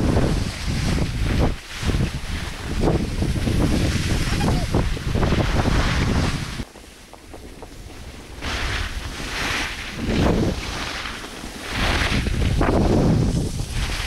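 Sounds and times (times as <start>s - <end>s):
skis hissing over snow: 0.0s - 14.0s
wind rumbling on microphone: 0.0s - 14.0s.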